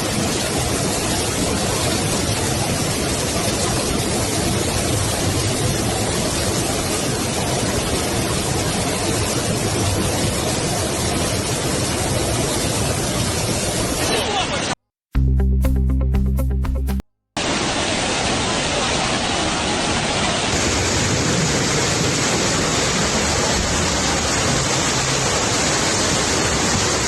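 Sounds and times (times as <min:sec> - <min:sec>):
fast-flowing floodwater roar: 0:00.0 - 0:14.8, 0:17.4 - 0:27.0.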